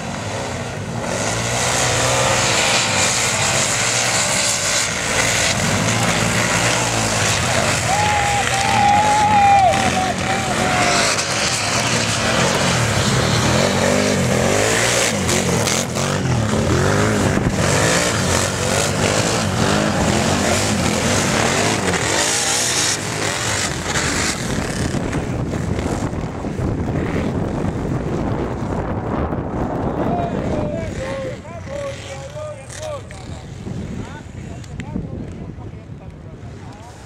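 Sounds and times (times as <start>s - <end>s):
racing quad engines revving: 0.0s - 35.6s.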